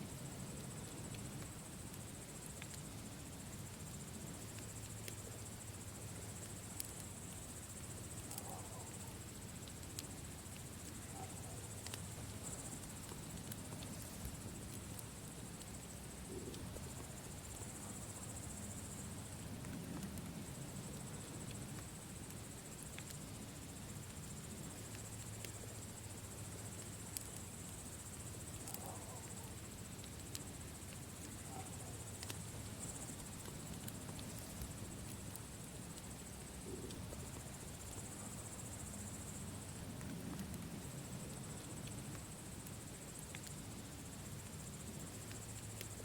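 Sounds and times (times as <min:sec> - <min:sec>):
campfire crackling: 0:00.0 - 0:46.0
crickets chirring: 0:00.0 - 0:46.0.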